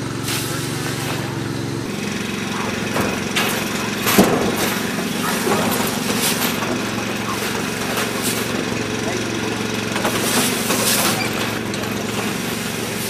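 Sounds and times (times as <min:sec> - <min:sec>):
machine motor running: 0:00.0 - 0:13.0
metal knocks and clanks: 0:01.9 - 0:12.8.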